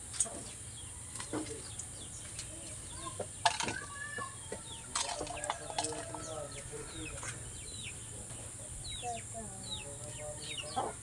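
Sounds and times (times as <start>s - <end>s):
chickens clucking: 0.2s - 11.0s.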